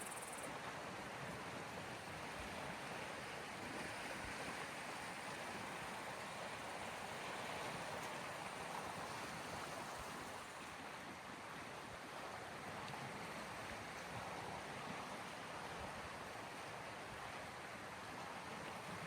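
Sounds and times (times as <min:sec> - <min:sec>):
small waves washing on shore: 0:00.4 - 0:19.0.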